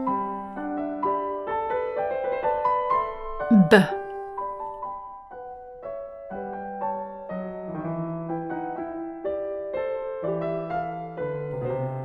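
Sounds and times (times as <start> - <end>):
gentle piano music: 0.0 - 3.4, 4.4 - 12.0.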